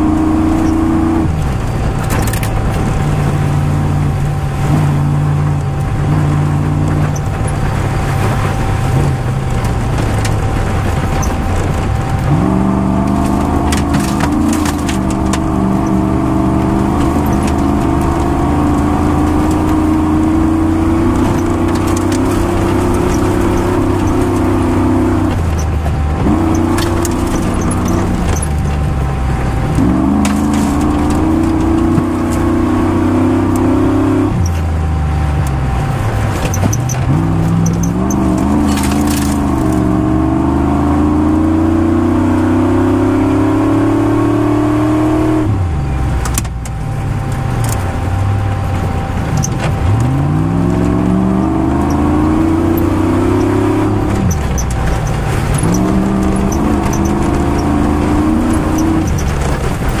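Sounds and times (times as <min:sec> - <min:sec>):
car knocks and rattles: 0:00.0 - 0:40.2, 0:45.5 - 1:00.0
rally car engine revving: 0:00.0 - 1:00.0.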